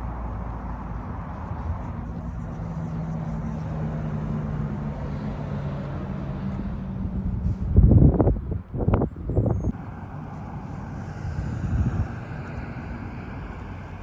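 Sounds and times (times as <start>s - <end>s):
vehicle engine droning: 0.0s - 14.0s
loud low rumbling: 1.1s - 14.0s.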